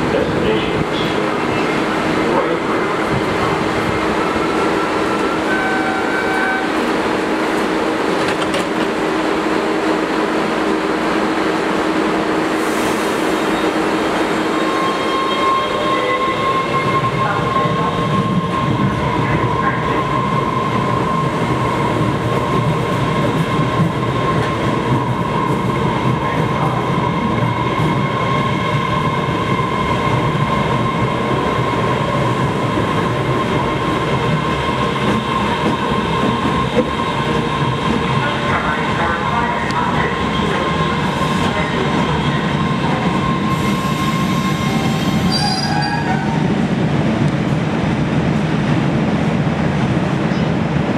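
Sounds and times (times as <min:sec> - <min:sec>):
subway train hum: 0:00.0 - 0:50.9
train wheels rumbling: 0:00.0 - 0:50.9.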